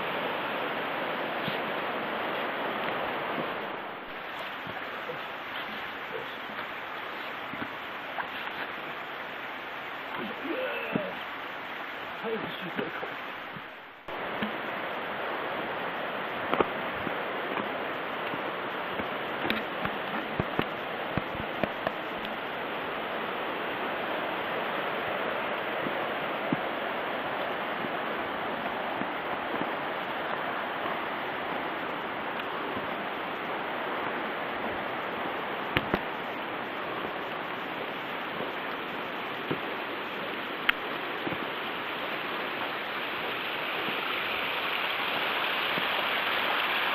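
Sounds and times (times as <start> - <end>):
mountain stream rushing: 0.0 - 46.9.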